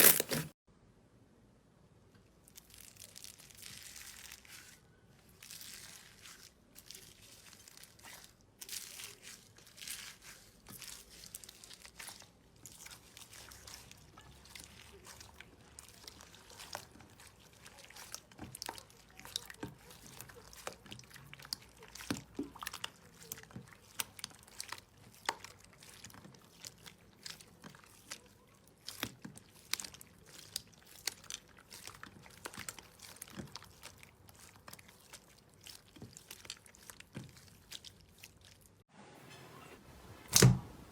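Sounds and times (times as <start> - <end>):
slime crackling and popping: 2.5 - 4.8, 5.4 - 38.8.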